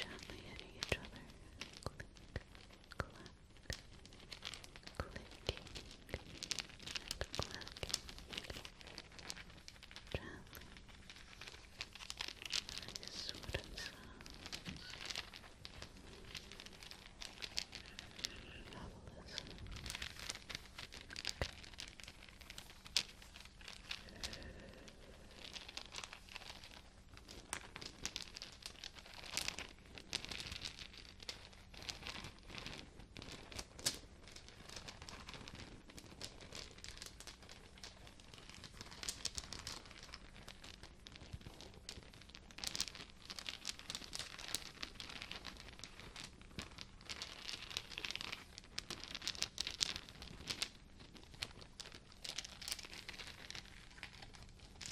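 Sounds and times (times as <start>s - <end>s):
rustle of handling: 0.0s - 54.9s
wooden beads clicking together: 0.0s - 54.9s.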